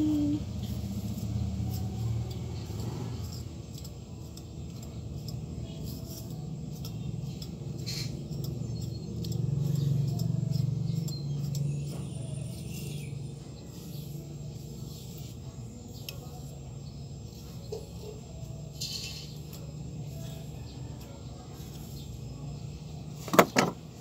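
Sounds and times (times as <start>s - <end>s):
comb scratching through wet hair: 0.0s - 23.9s.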